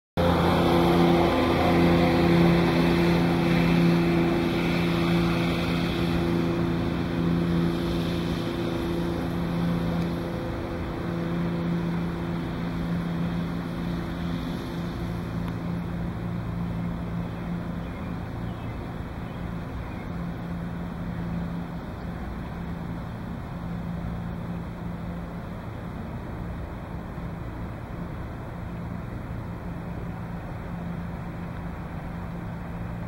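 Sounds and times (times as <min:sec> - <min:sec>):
engine droning: 0:00.2 - 0:33.0
wind on microphone: 0:00.2 - 0:33.0.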